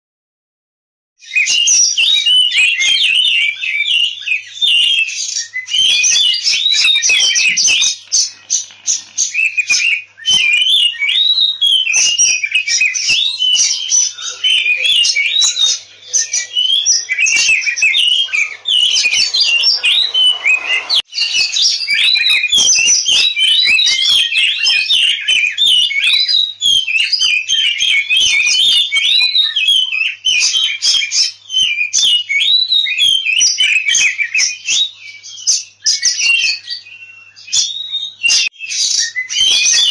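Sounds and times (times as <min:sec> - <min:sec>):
magpie-robin singing: 0:01.2 - 0:39.9.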